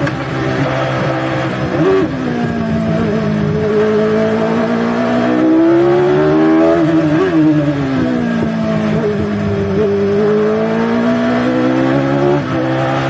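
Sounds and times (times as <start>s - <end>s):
racing car engine revving: 0.0s - 13.0s.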